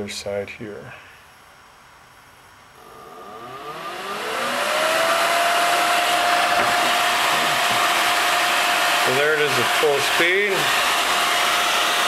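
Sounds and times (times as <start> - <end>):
electric fan whining: 0.0 - 12.0
rush of air from fan: 0.9 - 12.0.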